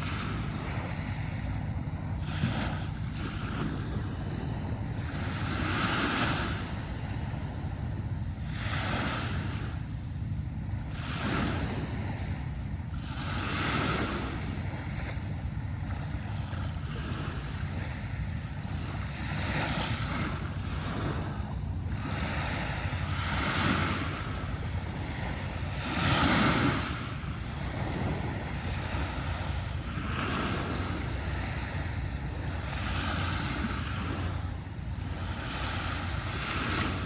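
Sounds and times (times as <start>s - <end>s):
low rumble: 0.0s - 37.0s
sea waves breaking on beach: 0.0s - 37.0s.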